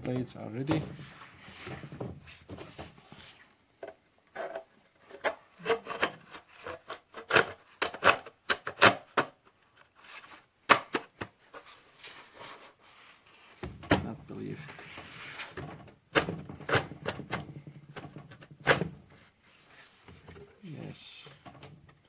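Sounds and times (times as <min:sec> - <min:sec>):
scrapes and knocks of handling: 0:00.0 - 0:07.4, 0:11.1 - 0:22.0.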